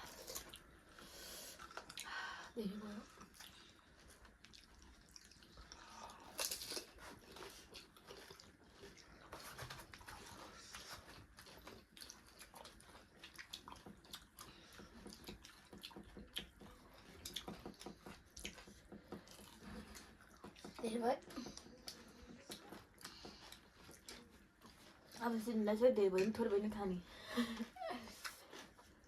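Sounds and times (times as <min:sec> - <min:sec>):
people chewing food: 0:00.0 - 0:29.0.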